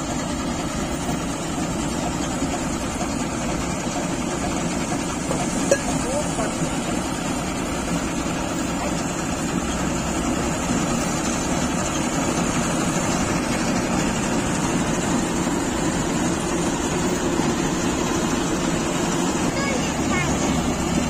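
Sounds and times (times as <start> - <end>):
combine harvester machine noise: 0.0 - 21.0
tractor diesel engine: 0.0 - 21.0.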